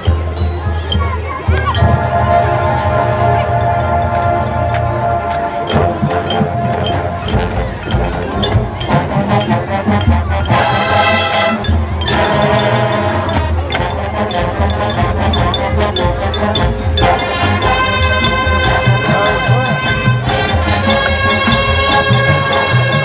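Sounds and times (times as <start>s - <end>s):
steady percussion: 0.0s - 23.0s
brass chords: 1.5s - 23.0s.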